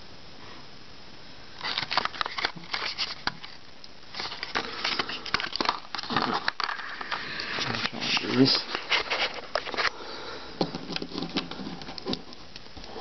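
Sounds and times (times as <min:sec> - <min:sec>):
plastic packaging crinkling and clicking: 0:01.6 - 0:10.0, 0:10.6 - 0:13.0.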